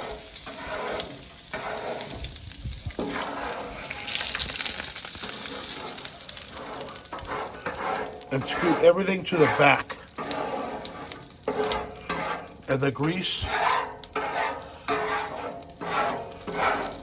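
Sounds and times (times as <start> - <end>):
griddle being scraped: 0.0 - 17.0
griddle sizzling: 0.0 - 17.0.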